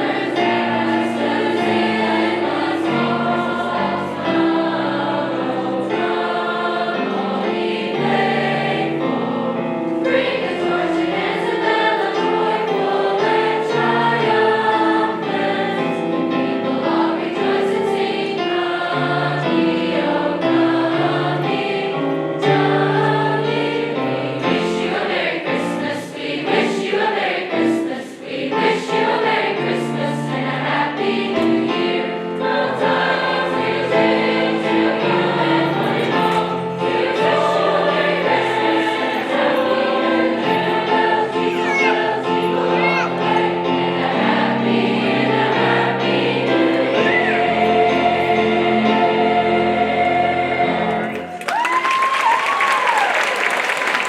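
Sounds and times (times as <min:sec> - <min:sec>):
choir singing in harmony: 0:00.0 - 0:51.5.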